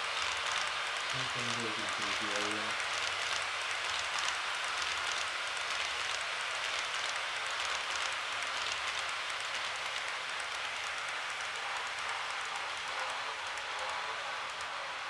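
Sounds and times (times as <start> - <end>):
model train rolling hiss: 0.0 - 15.0.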